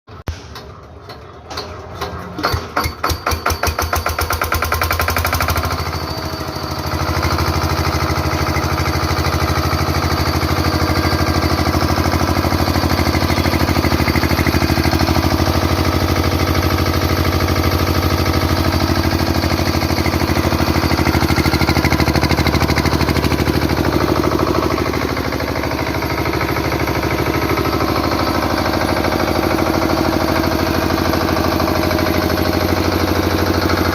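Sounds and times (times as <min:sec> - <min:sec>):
generator engine starting: 0:00.1 - 0:33.9.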